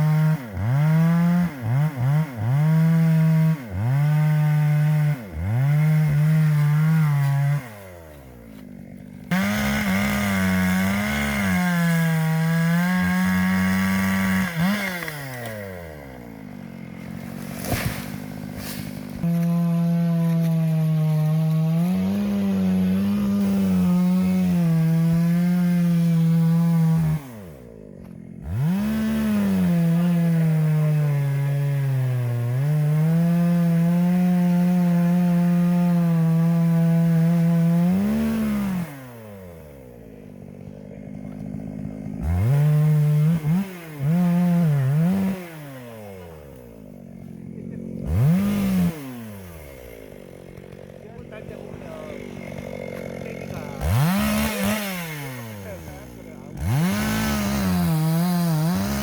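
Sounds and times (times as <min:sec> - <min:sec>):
chainsaw cutting wood: 0:00.0 - 0:59.0
chainsaw idling: 0:00.0 - 0:59.0
chainsaw throttle blips: 0:00.0 - 0:59.0.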